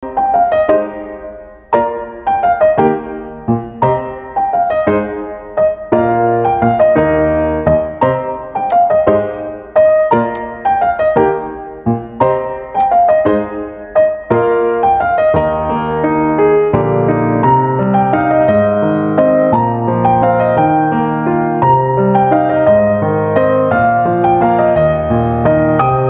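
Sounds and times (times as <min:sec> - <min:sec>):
slow piano melody: 0:00.0 - 0:26.0.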